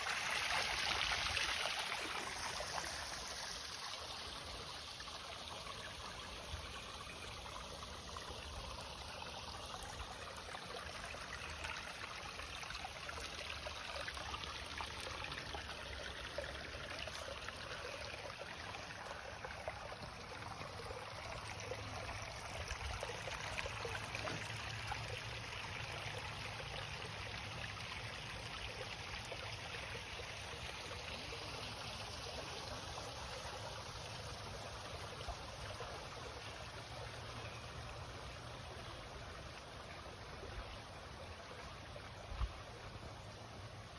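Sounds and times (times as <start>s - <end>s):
water trickling down waterfall: 0.0s - 43.9s.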